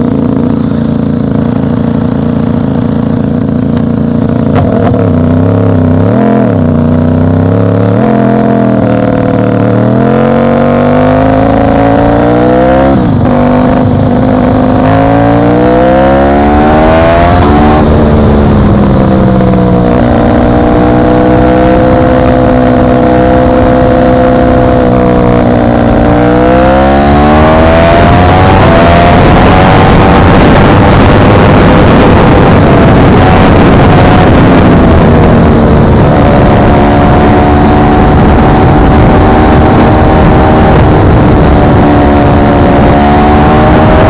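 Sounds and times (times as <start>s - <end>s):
motorcycle engine accelerating: 0.0s - 44.0s
wind and road noise: 0.0s - 44.0s.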